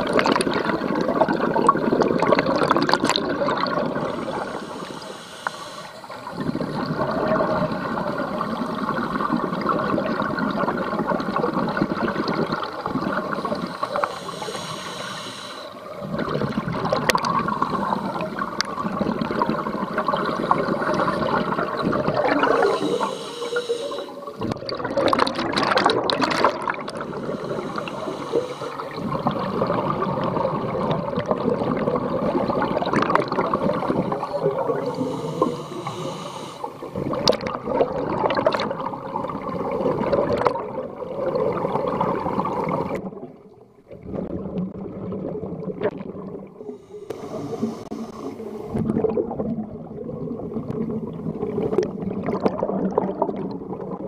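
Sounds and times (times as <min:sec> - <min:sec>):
underwater bubbles gurgling: 0:00.0 - 0:54.0.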